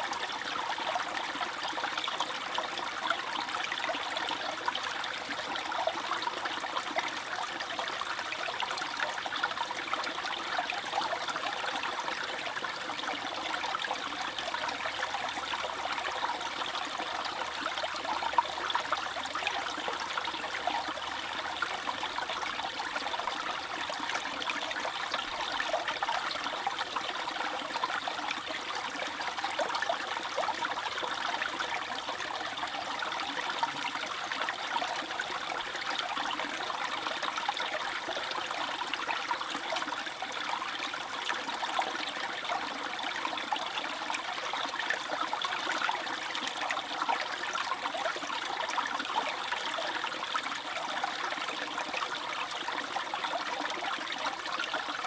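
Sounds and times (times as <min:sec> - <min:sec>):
brook babbling over pebbles: 0:00.0 - 0:55.0.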